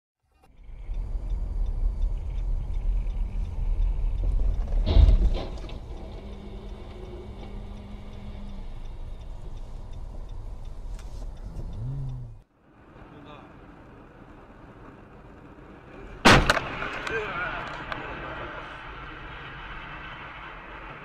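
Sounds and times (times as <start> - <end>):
low road rumble: 0.2 - 21.0.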